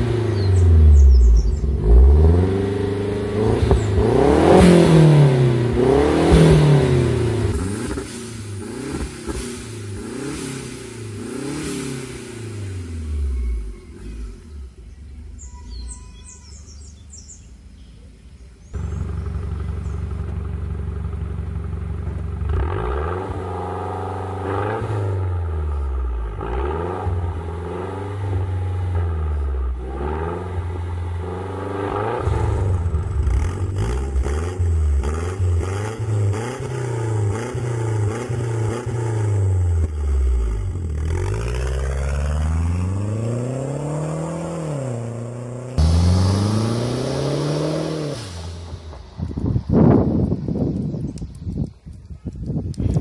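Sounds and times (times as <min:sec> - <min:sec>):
car engine revving: 0:00.0 - 0:14.9, 0:18.8 - 0:50.0.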